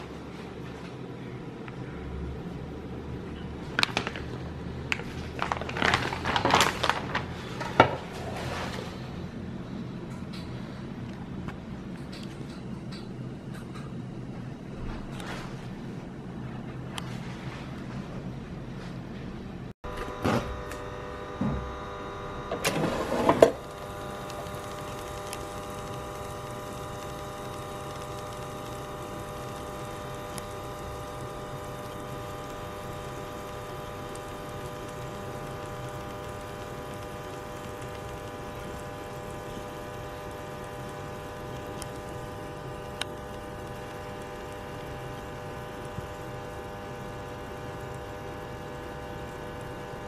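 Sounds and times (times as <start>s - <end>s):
air fryer fan hum: 0.0s - 50.0s.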